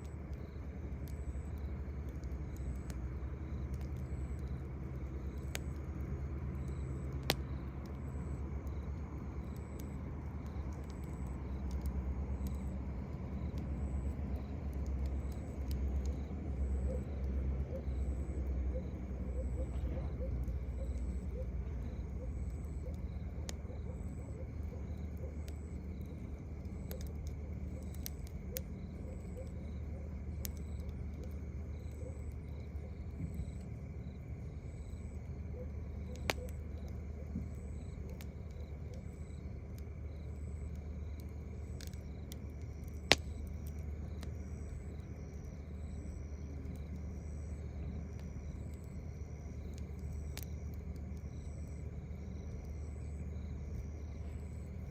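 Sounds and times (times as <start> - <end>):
campfire pops: 0.0 - 54.9
crickets chirping: 0.0 - 54.9
low steady rumble: 0.0 - 54.9.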